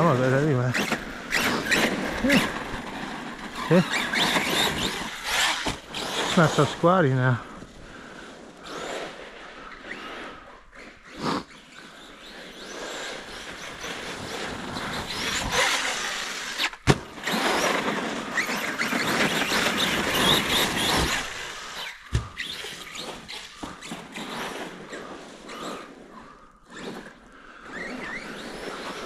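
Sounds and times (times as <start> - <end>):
toy truck electric motor: 0.0 - 7.1, 8.4 - 29.0
tyres churning through slush: 0.0 - 29.0.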